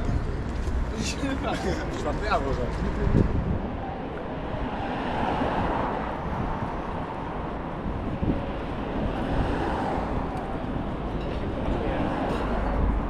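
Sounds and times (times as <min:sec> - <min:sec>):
outdoor hubbub: 0:00.0 - 0:13.0
road traffic rumble: 0:00.0 - 0:13.0.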